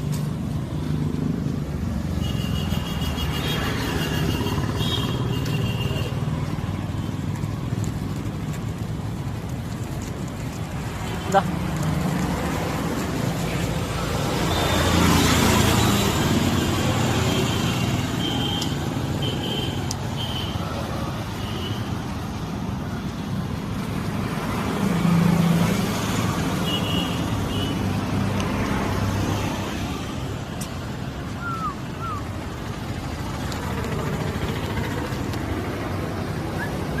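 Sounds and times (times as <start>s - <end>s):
road traffic: 0.0s - 37.0s
vehicles passing: 0.0s - 37.0s.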